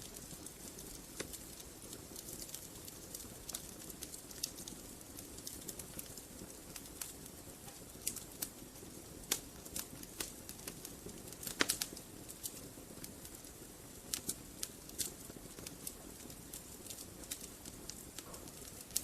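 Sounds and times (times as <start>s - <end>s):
low hiss of flames: 0.0s - 19.0s
wood fire crackling and popping: 0.0s - 19.0s.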